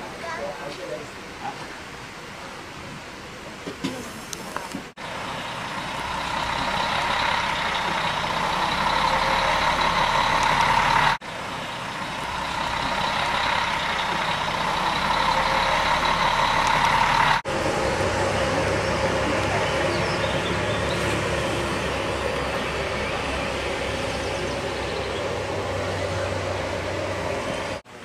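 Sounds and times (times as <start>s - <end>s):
diesel bus engine running: 4.4s - 28.0s.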